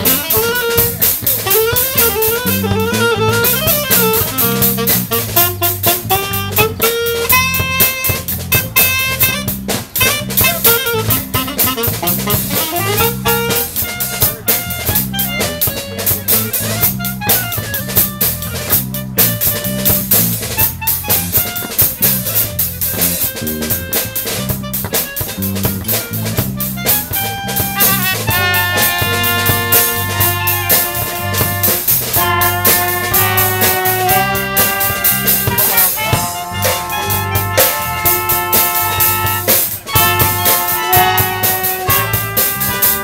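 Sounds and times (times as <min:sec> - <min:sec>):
bass line: 0:00.0 - 0:43.0
drum beat: 0:00.0 - 0:43.0
horn riffs: 0:00.0 - 0:43.0.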